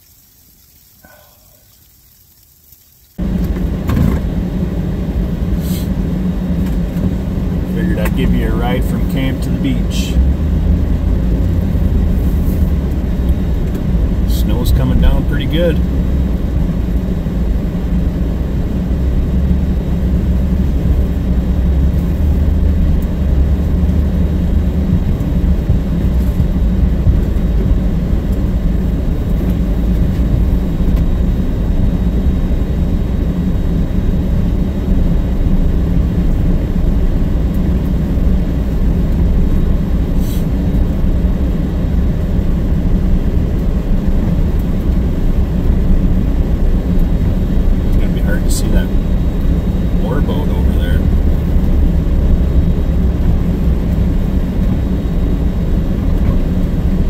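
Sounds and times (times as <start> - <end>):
car engine and road noise: 3.2 - 57.0.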